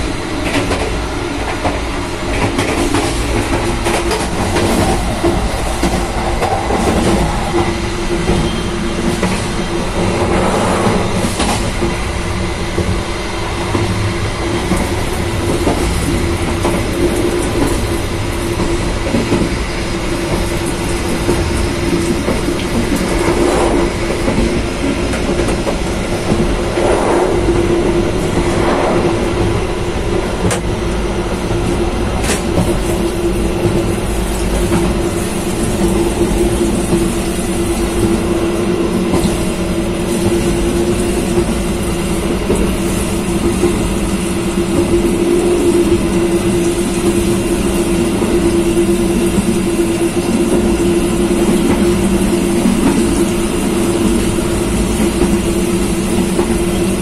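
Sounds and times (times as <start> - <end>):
train rail rumble: 0.0 - 57.0.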